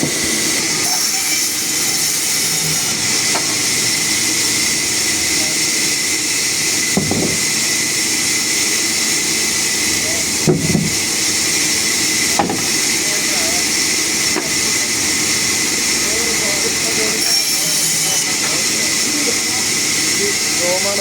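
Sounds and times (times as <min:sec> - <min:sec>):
sawmill machinery hissing: 0:00.0 - 0:21.0.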